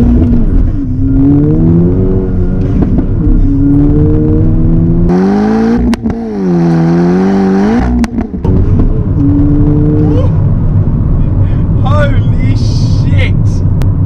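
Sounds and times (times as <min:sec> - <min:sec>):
car engine accelerating hard: 0:00.0 - 0:11.8.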